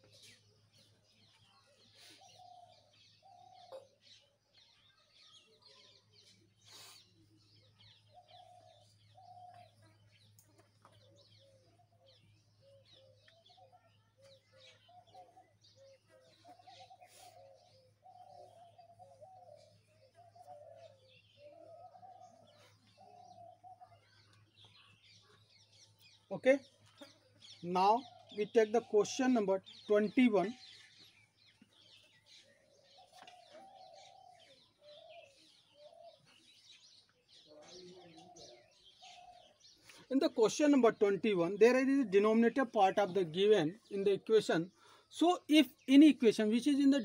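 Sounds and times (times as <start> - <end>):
bird calls and chirps: 0.0 - 47.0.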